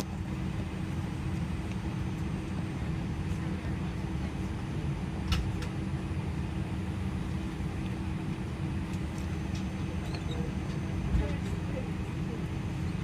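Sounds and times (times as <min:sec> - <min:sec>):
airplane cabin rumble and hum: 0:00.0 - 0:13.0.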